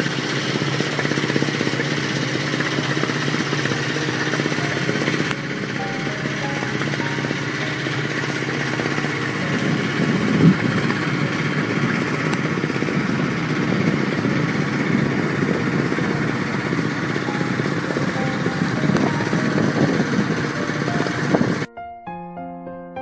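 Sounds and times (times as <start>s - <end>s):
boat engine running: 0.0s - 21.7s.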